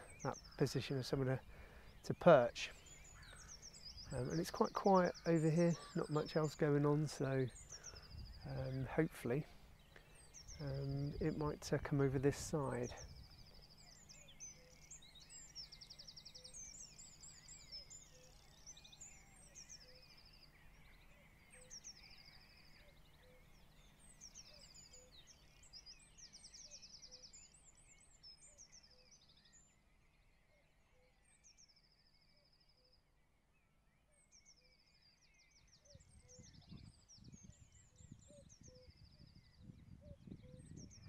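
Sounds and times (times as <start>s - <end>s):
faint songbird song with trill: 0.0s - 41.0s.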